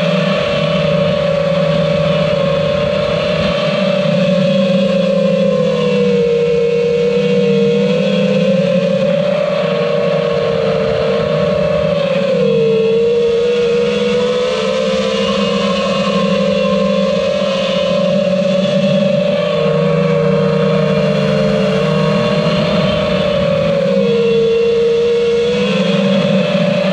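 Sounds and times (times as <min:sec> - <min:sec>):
drone propellers whining: 0:00.0 - 0:26.9.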